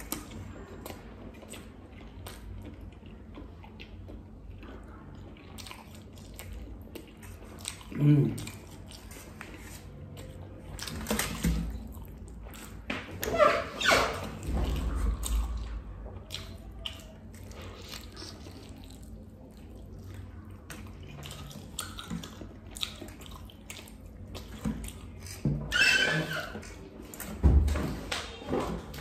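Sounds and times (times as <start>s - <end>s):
person chewing: 0.0s - 13.3s, 14.2s - 25.5s.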